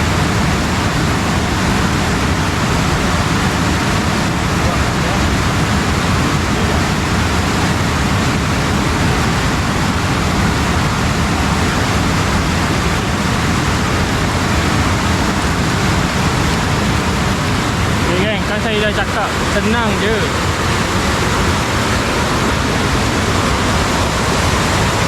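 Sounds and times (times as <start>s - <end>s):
water rushing: 0.0s - 25.0s.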